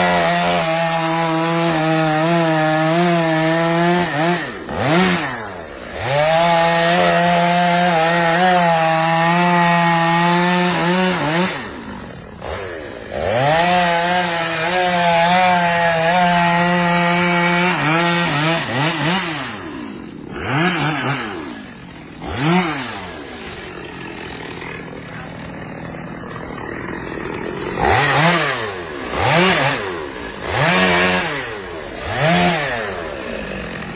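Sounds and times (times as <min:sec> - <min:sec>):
two-stroke chainsaw revving: 0:00.0 - 0:33.9.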